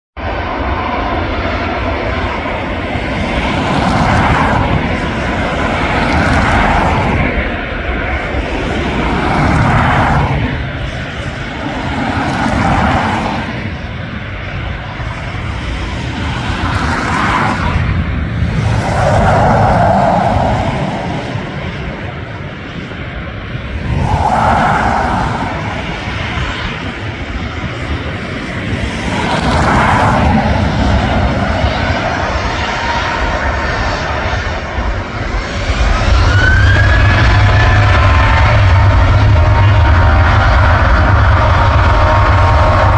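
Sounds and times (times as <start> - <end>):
jet engines taxiing: 0.2 - 42.9.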